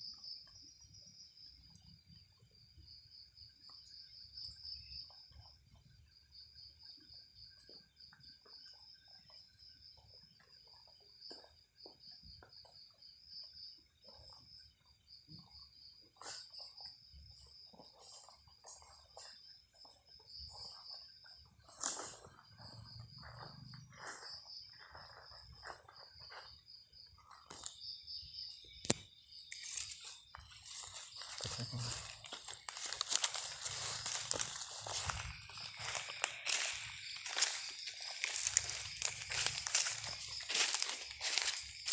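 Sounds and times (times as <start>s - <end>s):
night insects trilling: 0.0s - 41.9s.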